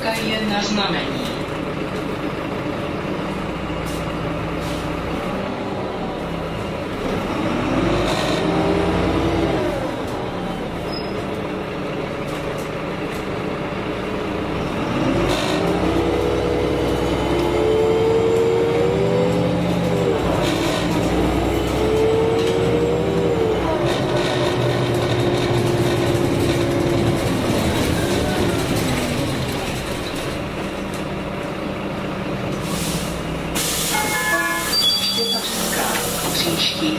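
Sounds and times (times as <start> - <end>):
bus diesel engine accelerating: 0.0 - 36.9.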